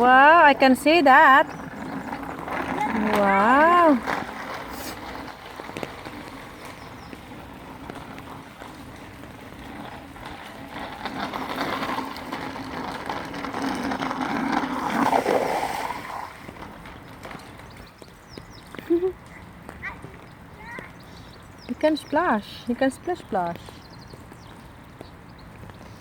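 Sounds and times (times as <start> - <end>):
light rain on wet ground: 0.0 - 26.0.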